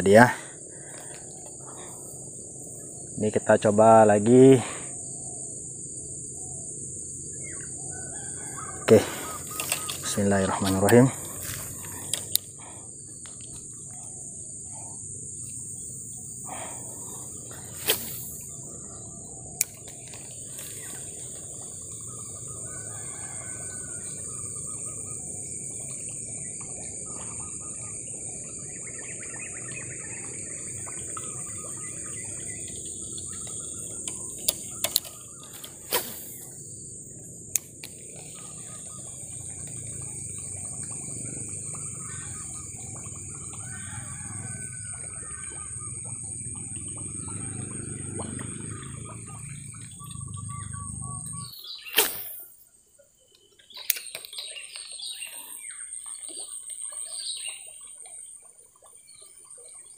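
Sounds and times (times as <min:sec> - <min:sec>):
high-pitched insect drone: 0:00.0 - 0:52.6
birds chirping faintly: 0:00.0 - 0:59.9.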